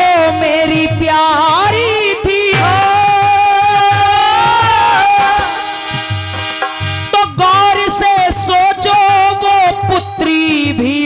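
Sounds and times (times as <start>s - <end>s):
dholak drum beats: 0.0s - 11.0s
harmonium: 0.0s - 11.0s.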